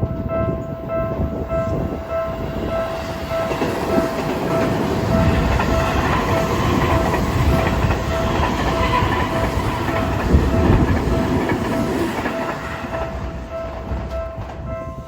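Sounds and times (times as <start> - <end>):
train wheels clattering: 0.0 - 15.0.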